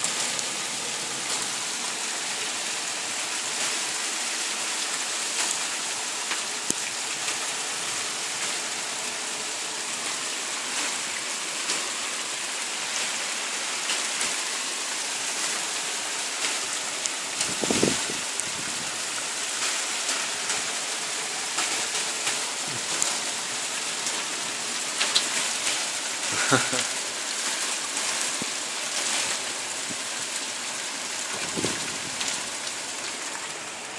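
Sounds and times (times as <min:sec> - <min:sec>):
hail hissing on pavement: 0:00.0 - 0:33.9
hailstones ticking: 0:00.0 - 0:33.9.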